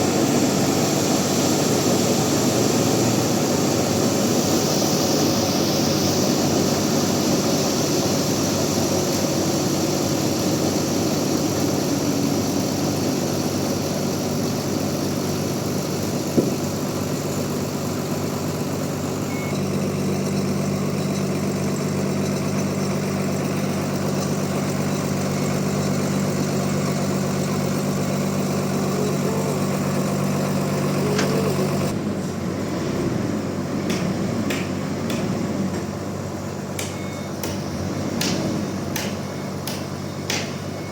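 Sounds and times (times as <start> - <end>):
band sawmill humming: 0.0 - 40.9.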